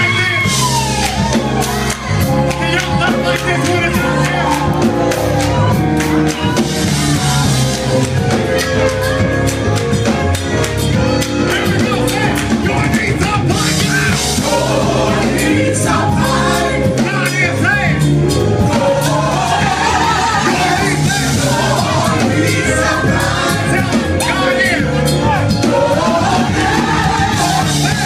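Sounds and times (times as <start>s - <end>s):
gospel band with singers: 0.0s - 28.0s.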